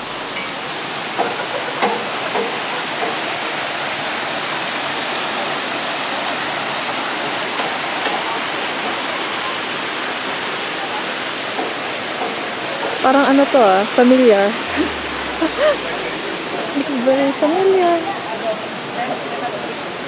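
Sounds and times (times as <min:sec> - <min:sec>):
fast-flowing water: 0:00.0 - 0:20.0.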